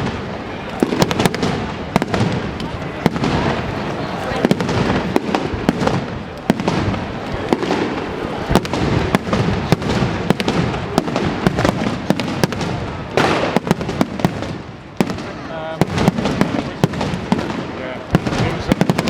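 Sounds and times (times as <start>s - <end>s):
fireworks bangs and crackles: 0.0s - 19.0s
fireworks rushing burst: 0.0s - 19.0s.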